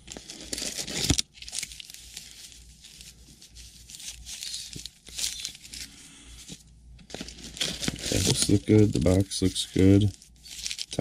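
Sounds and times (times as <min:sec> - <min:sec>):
card packs crinkling and rustling: 0:00.0 - 0:11.0.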